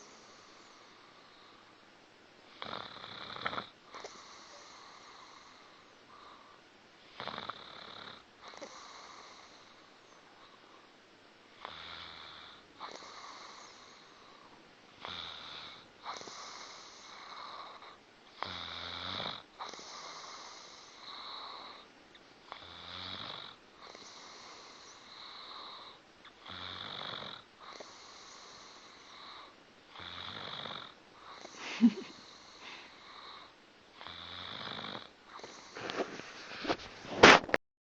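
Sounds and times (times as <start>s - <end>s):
pet snoring: 2.5s - 9.9s, 11.6s - 21.9s, 22.5s - 36.8s.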